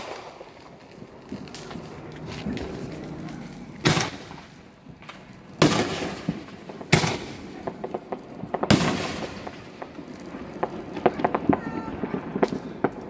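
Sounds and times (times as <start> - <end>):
crackling pops: 0.0 - 13.0
fireworks bangs: 0.0 - 13.0.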